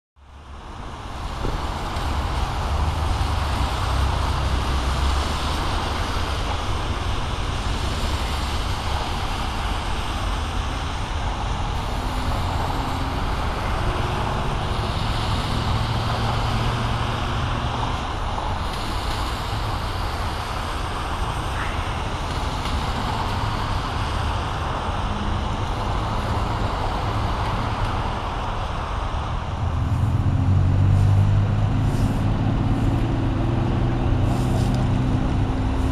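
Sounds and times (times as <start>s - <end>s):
road traffic noise: 0.2s - 35.9s.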